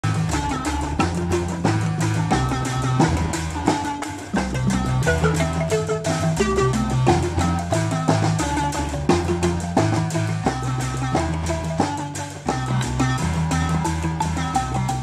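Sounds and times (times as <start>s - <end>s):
deep bass marimba notes: 0.0s - 15.0s
drums keeping beat: 0.0s - 15.0s
marimbas playing: 0.0s - 15.0s.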